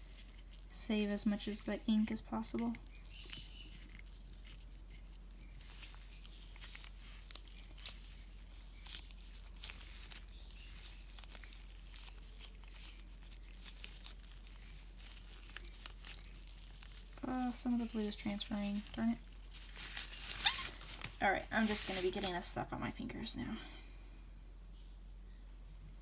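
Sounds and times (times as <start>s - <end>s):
rubber gloves crinkling: 0.0s - 23.0s.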